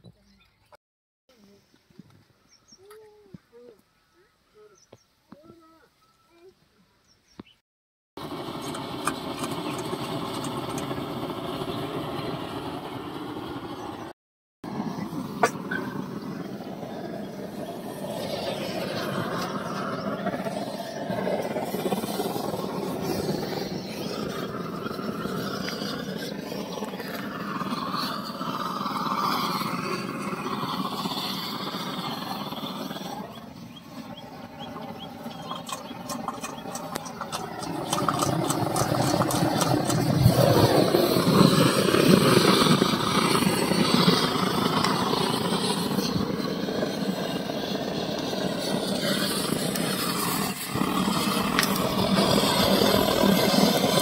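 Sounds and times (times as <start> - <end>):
blowtorch roaring: 8.2 - 54.0.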